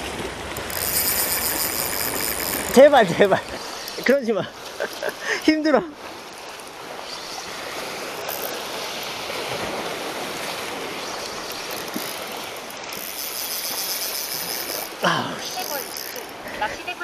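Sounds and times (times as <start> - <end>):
fishing reel drag whirring: 0.4 - 17.0.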